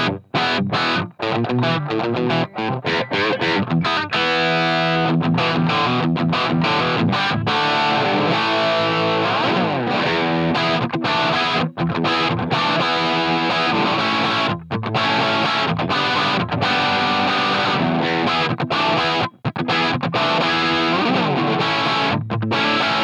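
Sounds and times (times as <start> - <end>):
crunchy electric guitar chords: 0.0 - 23.0.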